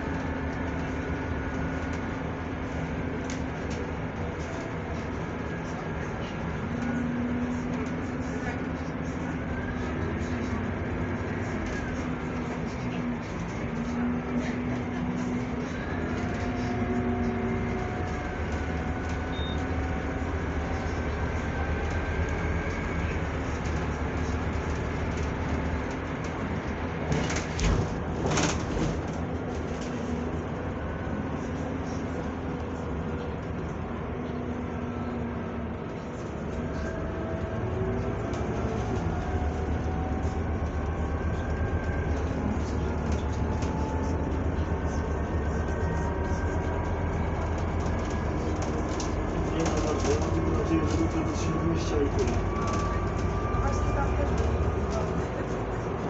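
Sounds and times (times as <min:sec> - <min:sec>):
bus engine rumble: 0:00.0 - 0:56.0
tyre and road noise: 0:00.0 - 0:56.0.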